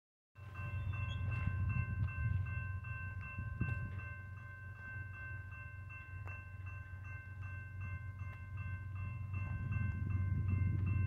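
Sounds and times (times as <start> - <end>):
railroad crossing bell ringing: 0.4 - 11.0.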